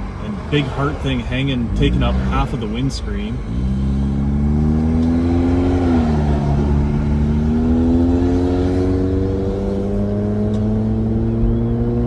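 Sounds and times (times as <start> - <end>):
car exhaust buzzing drone: 0.0 - 12.0.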